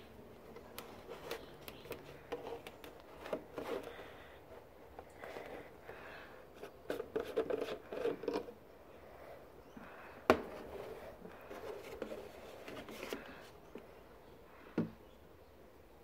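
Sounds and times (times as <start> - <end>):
rubbing and scraping handling noise: 0.0 - 14.0.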